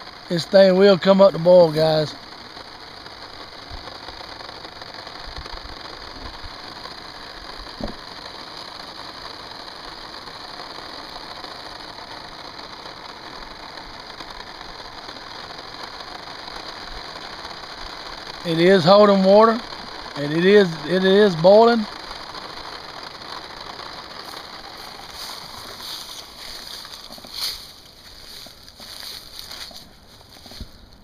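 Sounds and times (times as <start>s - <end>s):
gas stove burner hissing: 0.0s - 31.0s.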